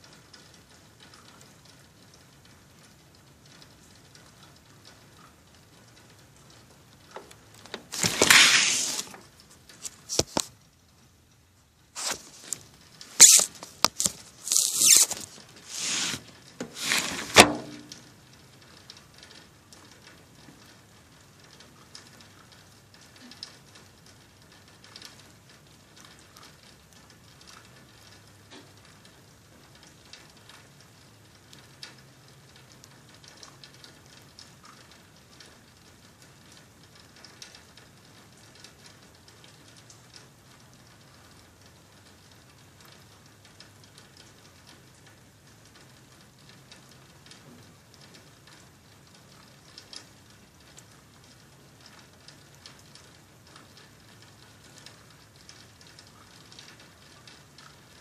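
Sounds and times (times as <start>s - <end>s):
faint rain hiss: 0.0s - 58.0s
raindrops ticking on surface: 0.0s - 58.0s.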